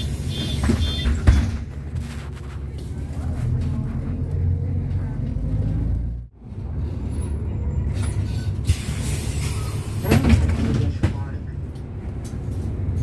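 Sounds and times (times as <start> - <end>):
vehicle interior rumble: 0.0 - 13.0.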